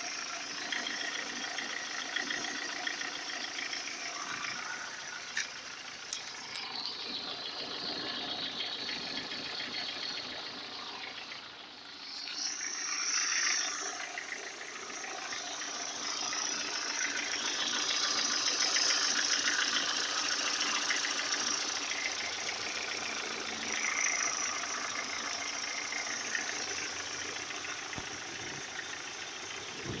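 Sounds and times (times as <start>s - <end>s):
car engine running: 0.0s - 30.0s
metallic engine ticking and knocking: 0.0s - 30.0s.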